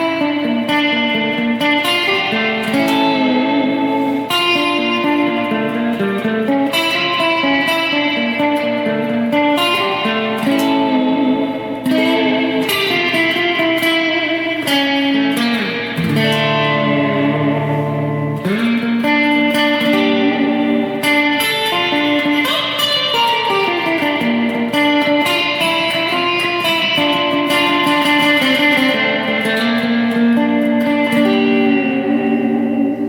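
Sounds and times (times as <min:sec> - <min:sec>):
electric guitar with spring reverb: 0:00.0 - 0:33.0.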